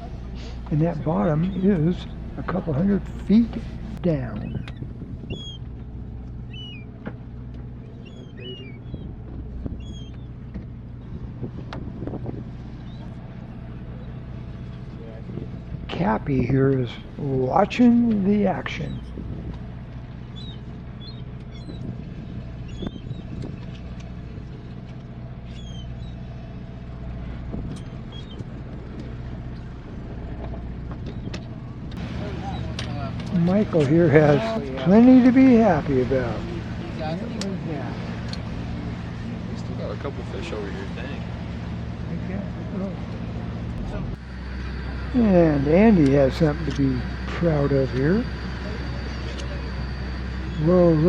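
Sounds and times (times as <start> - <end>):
birds chirping: 0.0 - 51.0
boat engine humming: 0.0 - 51.0.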